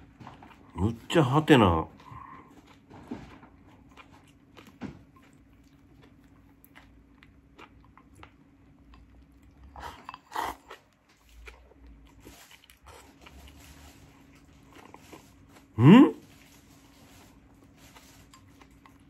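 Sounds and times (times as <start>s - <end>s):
quiet chewing: 0.0s - 19.0s.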